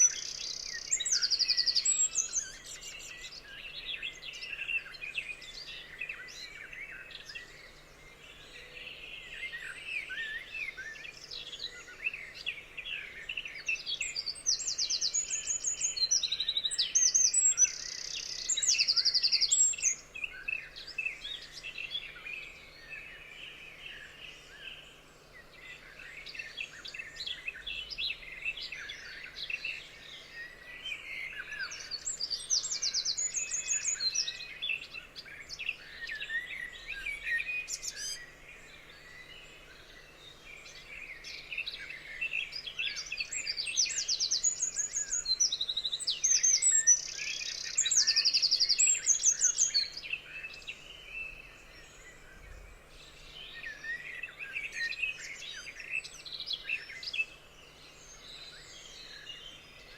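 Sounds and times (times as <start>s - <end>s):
forest birds singing and chirping: 0.0s - 59.9s.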